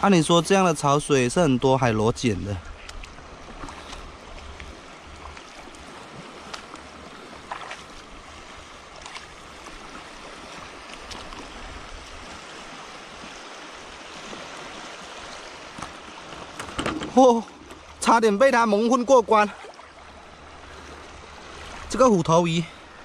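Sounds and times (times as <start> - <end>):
shallow seawater washing: 0.0 - 23.0.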